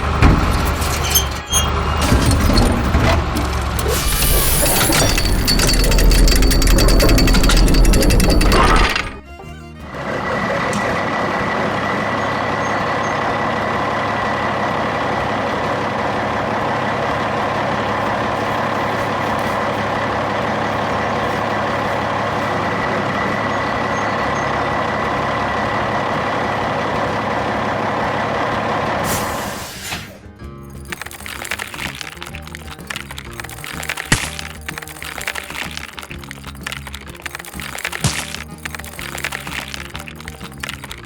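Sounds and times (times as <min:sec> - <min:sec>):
heavy truck engine running: 0:00.0 - 0:41.0.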